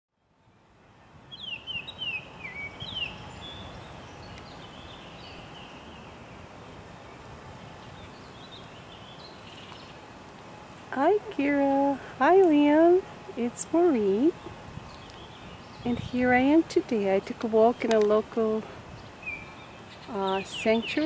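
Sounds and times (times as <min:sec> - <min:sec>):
outdoor background hiss: 0:00.1 - 0:21.0
small birds chirping: 0:01.3 - 0:10.1, 0:11.0 - 0:21.0.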